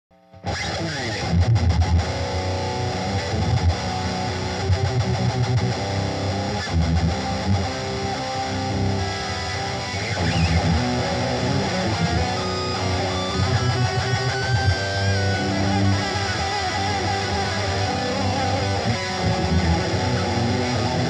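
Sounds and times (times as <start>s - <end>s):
electric guitar: 0.2s - 21.0s
bass guitar line: 0.4s - 21.0s.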